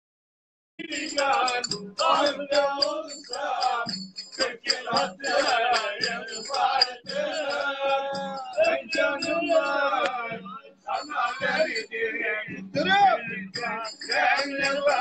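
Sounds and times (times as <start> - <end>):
sharp rhythmic clicks: 0.8 - 12.0, 12.8 - 15.0
man singing: 0.8 - 15.0.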